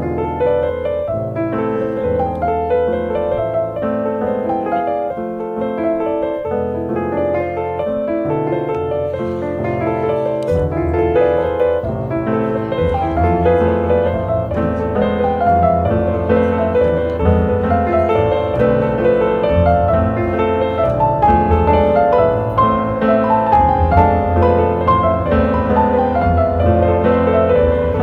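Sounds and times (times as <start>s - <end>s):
calm classical piano piece: 0.0s - 28.0s.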